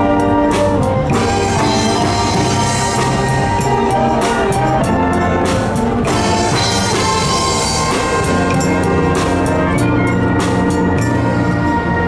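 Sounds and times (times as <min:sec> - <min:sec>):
brass sustained notes: 0:00.0 - 0:12.0
drum kit and percussion strikes: 0:00.0 - 0:12.0.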